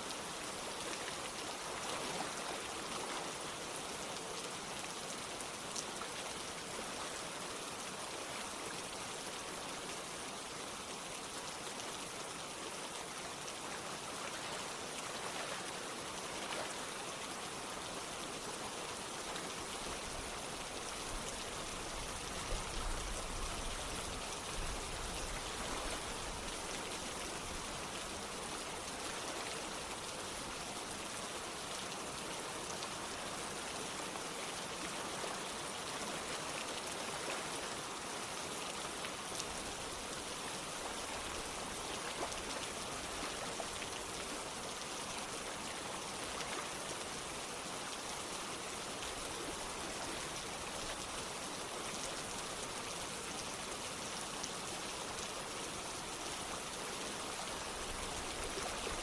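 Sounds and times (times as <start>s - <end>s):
running water: 0.0s - 59.0s
steady rain: 0.0s - 59.0s.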